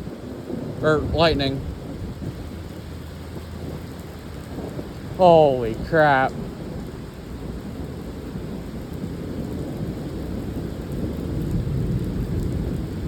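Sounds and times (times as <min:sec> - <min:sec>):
heavy rain falling: 0:00.0 - 0:13.0
thunder rumbling: 0:00.0 - 0:13.0.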